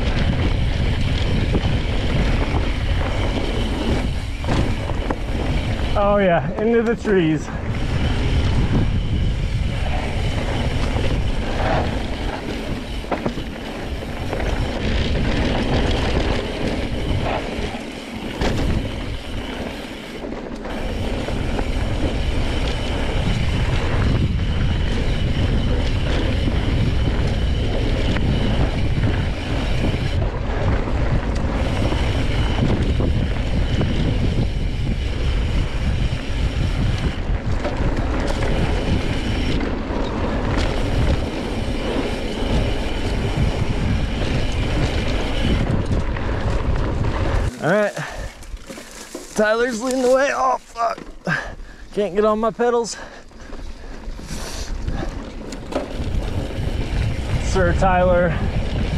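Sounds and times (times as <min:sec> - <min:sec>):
bike tyres rolling on dirt: 0:00.0 - 0:58.9
wind buffeting microphone: 0:00.0 - 0:58.9.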